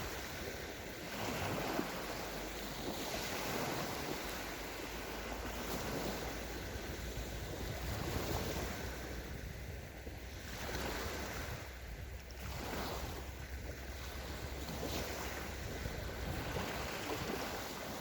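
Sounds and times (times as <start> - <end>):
sea waves washing onto beach: 0.0 - 18.0
wind rumble on microphone: 0.0 - 18.0.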